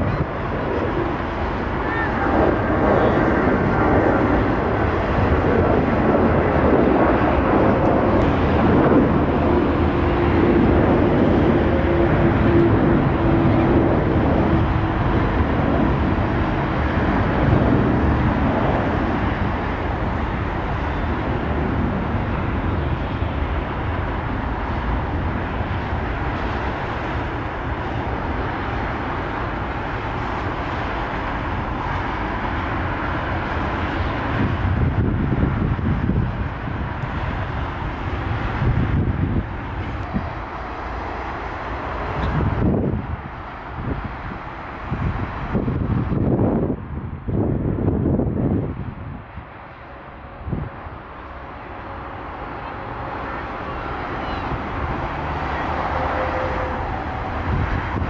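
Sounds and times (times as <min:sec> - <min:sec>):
jet engines running: 0:00.0 - 0:58.0
wind noise on microphone: 0:00.0 - 0:58.0.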